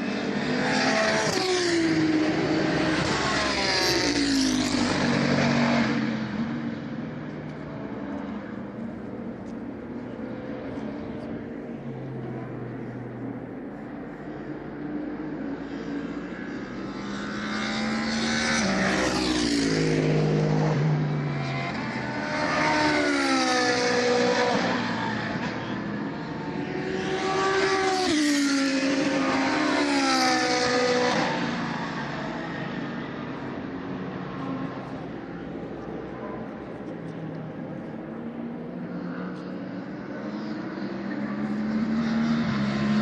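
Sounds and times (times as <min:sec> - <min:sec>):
race cars passing at speed: 0:00.0 - 0:43.0.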